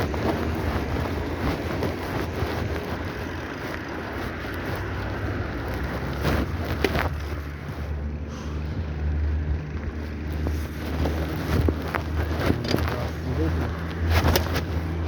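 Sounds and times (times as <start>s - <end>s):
bicycle rumble: 0.0s - 15.0s
wind on microphone: 0.0s - 15.0s.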